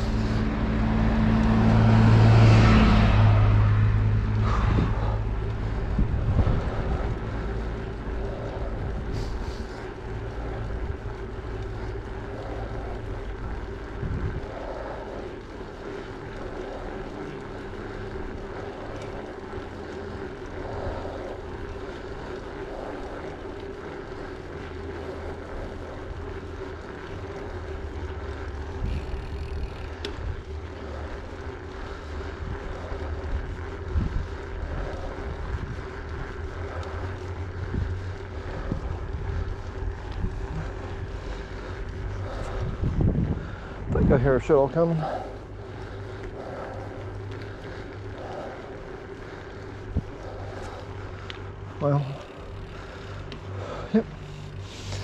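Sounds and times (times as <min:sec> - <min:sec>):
steady humming drone: 0:00.0 - 0:55.0
tyre noise on asphalt: 0:00.0 - 0:55.0
wind rumbling over microphone: 0:00.0 - 0:55.0.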